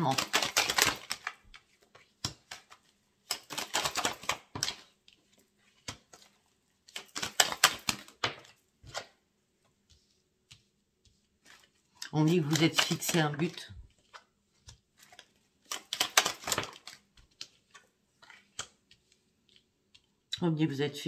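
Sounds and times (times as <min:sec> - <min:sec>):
cards being shuffled: 0:00.0 - 0:20.2.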